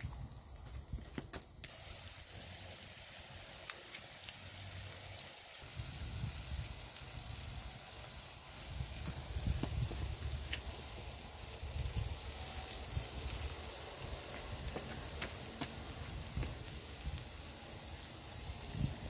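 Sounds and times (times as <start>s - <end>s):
food sizzling in a frying pan: 1.6s - 19.0s.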